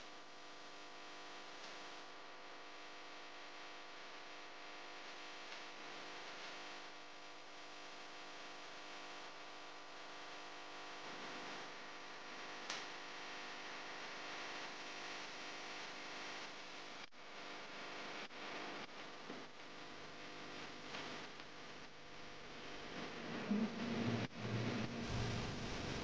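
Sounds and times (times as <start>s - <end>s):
faint hum and hiss: 0.0s - 26.0s.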